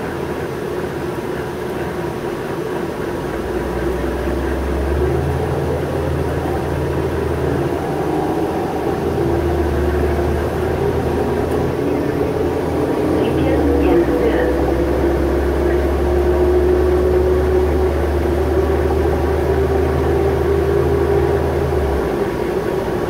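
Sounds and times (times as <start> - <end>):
bus engine and drivetrain: 0.0 - 23.0.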